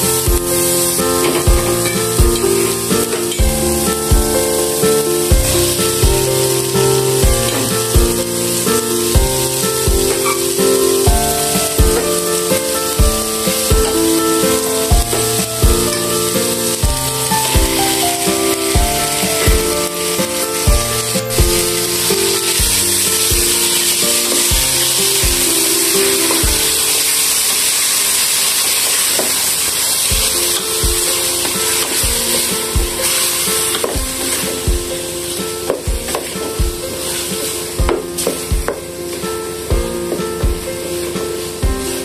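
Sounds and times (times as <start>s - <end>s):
background music with beat: 0.0s - 26.9s, 30.1s - 42.0s
shrimp sizzling in oil: 0.0s - 42.0s.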